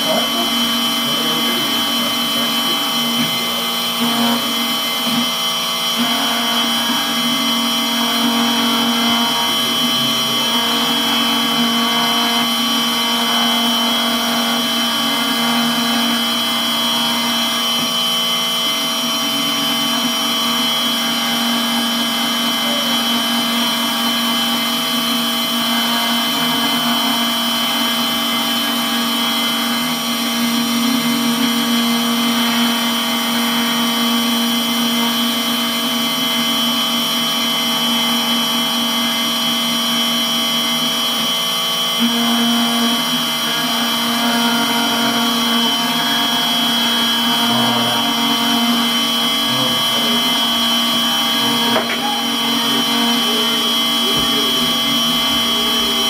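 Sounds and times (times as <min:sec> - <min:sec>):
milling spindle whining: 0:00.0 - 0:56.0.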